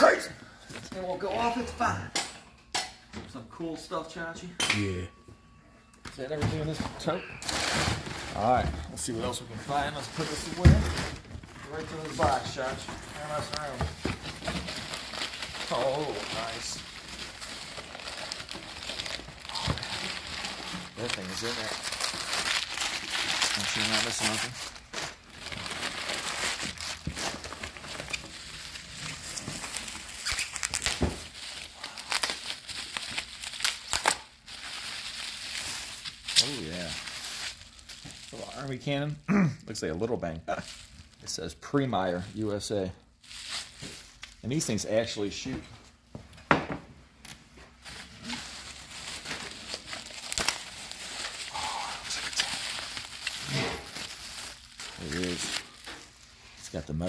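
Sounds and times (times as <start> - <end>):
paper and bubble wrap crinkling: 6.3 - 45.4, 47.7 - 57.0.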